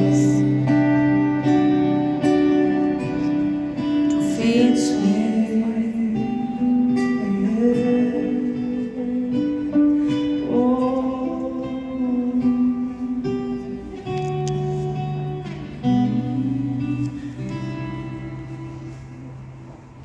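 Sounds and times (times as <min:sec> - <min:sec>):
person singing long notes: 0:00.0 - 0:03.0, 0:03.8 - 0:19.6
acoustic guitar strummed and picked: 0:00.0 - 0:20.0.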